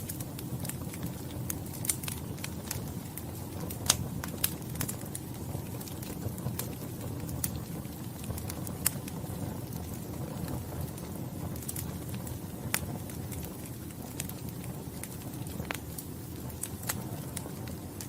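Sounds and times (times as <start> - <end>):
fire flames rushing: 0.0 - 18.0
wood fire pops and snaps: 0.0 - 18.0.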